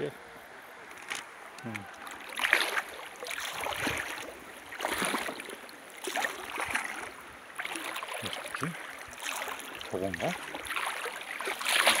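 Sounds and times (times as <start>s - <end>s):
river water splashing: 0.6s - 12.0s.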